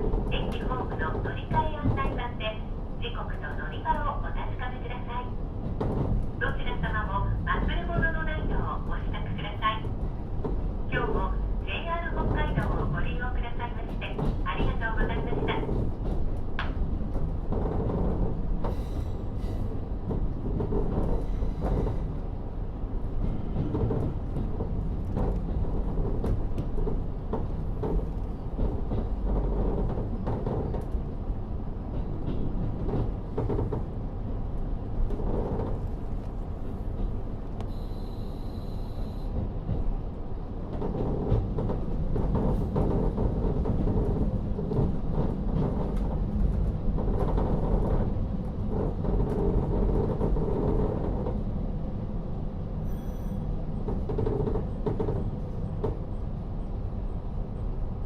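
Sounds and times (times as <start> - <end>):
diesel railcar rumble: 0.0 - 58.0.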